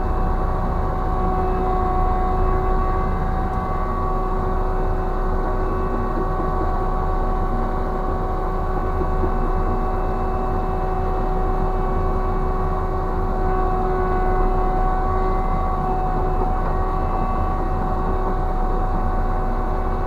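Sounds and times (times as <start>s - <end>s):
crane machinery drone: 0.0s - 20.0s
crane machinery whine: 0.0s - 20.0s.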